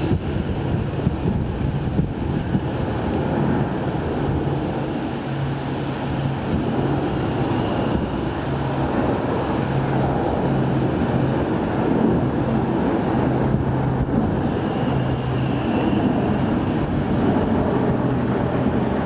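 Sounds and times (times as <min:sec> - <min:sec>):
helicopter running: 0:00.0 - 0:19.0
wind buffeting microphone: 0:00.0 - 0:19.0.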